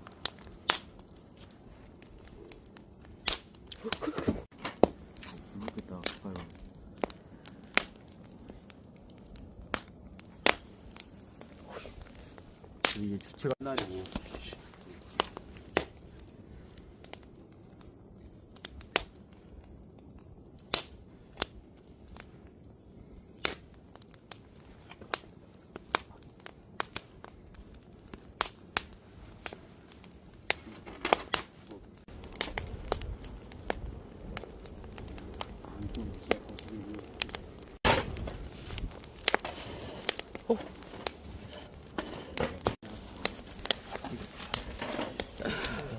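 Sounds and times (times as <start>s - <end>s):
campfire crackling and popping: 0.0s - 45.9s.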